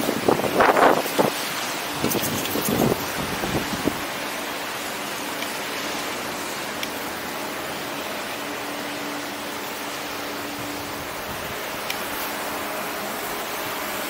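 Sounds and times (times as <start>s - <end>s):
chairlift air hiss: 0.0s - 14.0s.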